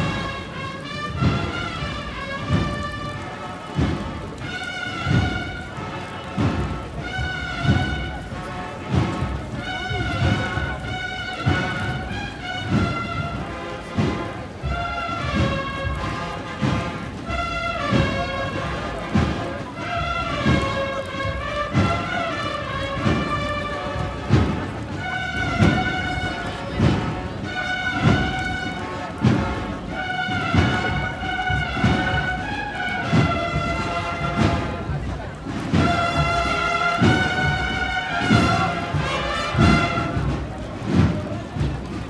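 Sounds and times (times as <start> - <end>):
band playing slow march: 0.0 - 42.0
drum strokes: 0.0 - 42.0.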